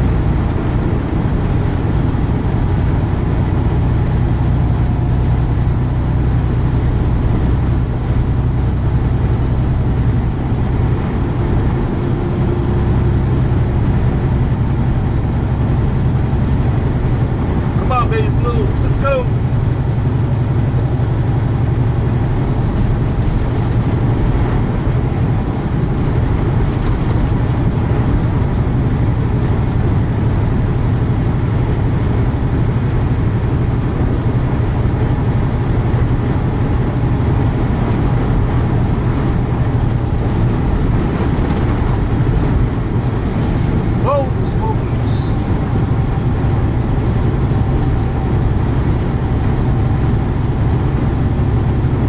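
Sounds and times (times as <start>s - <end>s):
road noise: 0.0s - 52.0s
truck engine drone: 0.0s - 52.0s.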